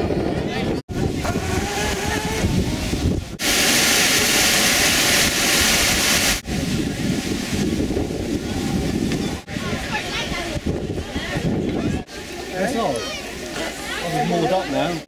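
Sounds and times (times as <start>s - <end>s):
wind noise on microphone: 0.0s - 12.1s
water rushing through a channel: 0.9s - 15.0s.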